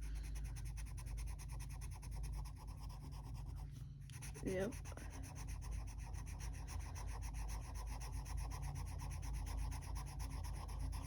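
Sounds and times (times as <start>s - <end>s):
pencil shading on paper: 0.0s - 11.0s.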